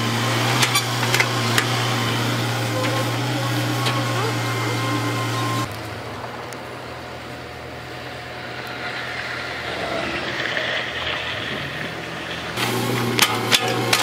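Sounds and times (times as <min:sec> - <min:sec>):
deep machine hum: 0:00.0 - 0:14.0
heavy vehicle engine running: 0:00.0 - 0:14.0.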